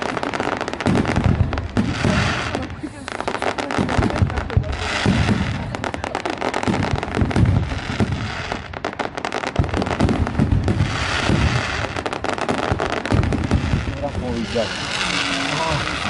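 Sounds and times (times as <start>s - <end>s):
fireworks booming: 0.0s - 16.0s
fireworks crackling and popping: 0.0s - 16.0s.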